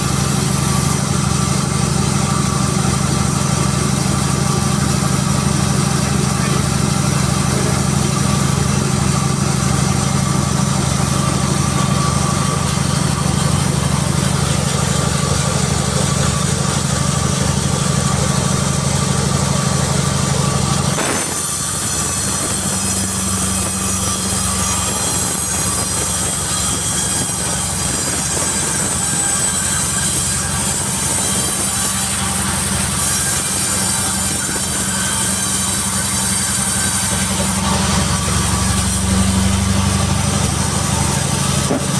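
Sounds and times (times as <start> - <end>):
sawmill machinery humming: 0.0 - 41.9.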